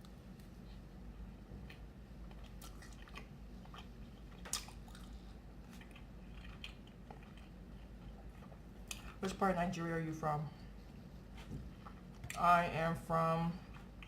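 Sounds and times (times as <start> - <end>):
person chewing food: 0.0 - 9.2, 10.7 - 12.4, 13.6 - 14.0.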